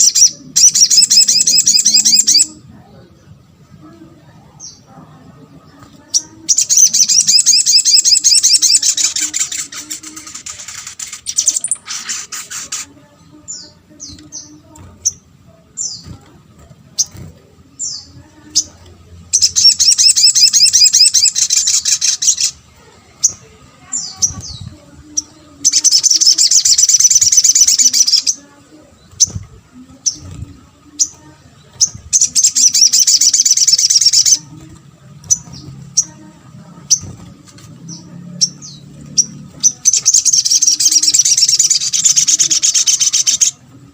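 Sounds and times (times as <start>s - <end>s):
bird high-pitched trills: 0.0s - 2.6s, 5.9s - 16.2s, 17.0s - 22.6s, 23.2s - 43.6s.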